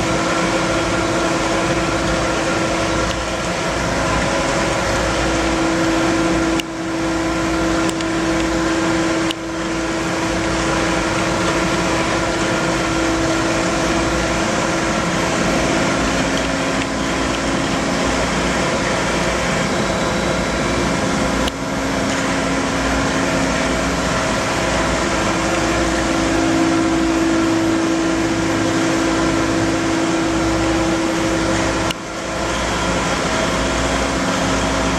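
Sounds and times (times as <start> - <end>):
droning tone: 0.0 - 34.9
industrial machinery humming: 0.0 - 34.9.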